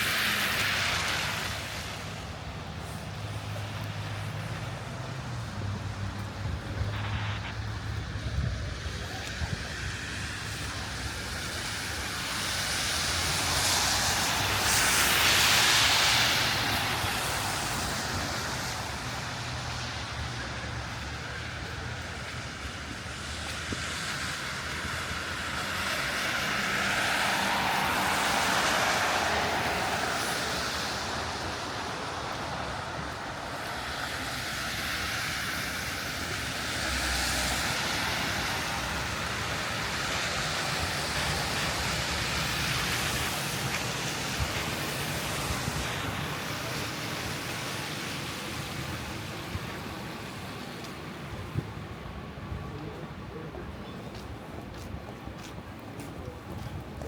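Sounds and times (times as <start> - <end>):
vehicles passing on snowy street: 0.0 - 57.0.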